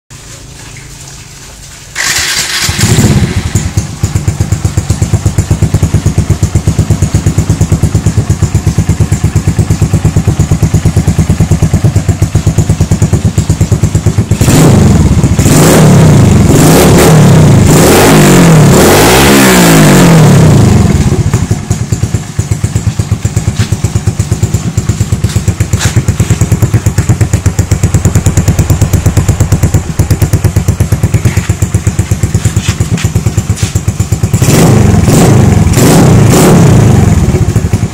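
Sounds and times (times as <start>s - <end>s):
motorcycle engine idling and revving: 1.9s - 37.9s.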